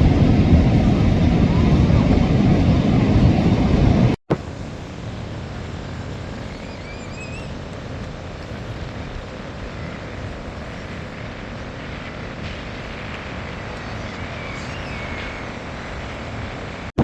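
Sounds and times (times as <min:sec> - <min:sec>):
wind and surf on beach: 0:00.0 - 0:17.0.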